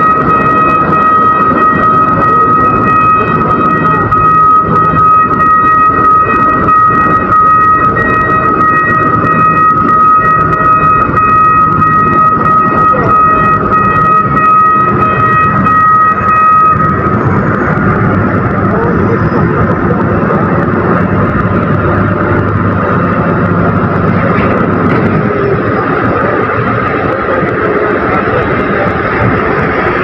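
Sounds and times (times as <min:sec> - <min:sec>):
heavy machinery engine drone: 0:00.0 - 0:30.0.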